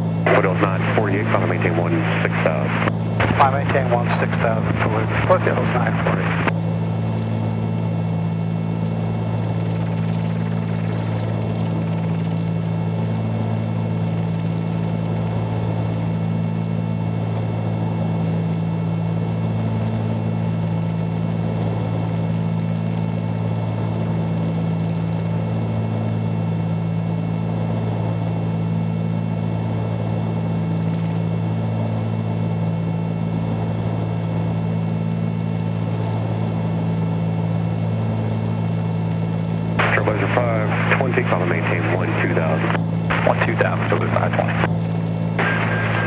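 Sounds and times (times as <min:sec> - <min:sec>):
airplane engines droning in cabin: 0:00.0 - 0:46.0.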